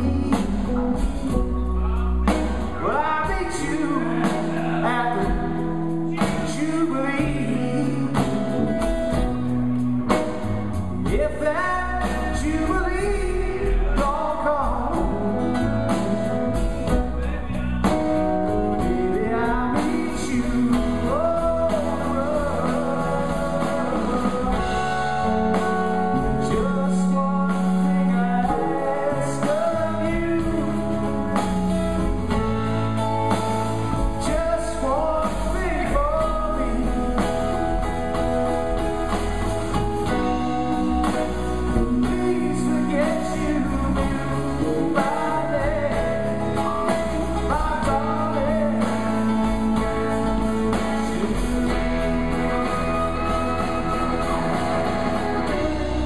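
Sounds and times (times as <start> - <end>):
electric guitar: 0.0 - 56.0
live band music: 0.0 - 56.0.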